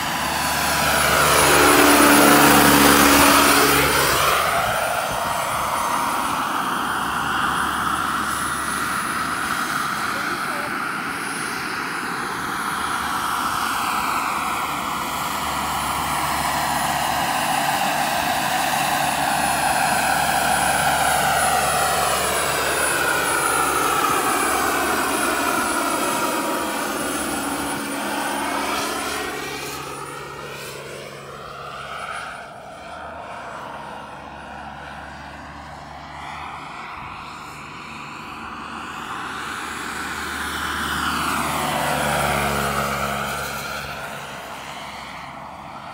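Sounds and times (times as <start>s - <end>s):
helicopter rotors beating: 0.0s - 45.9s
high turbine whine: 0.0s - 45.9s.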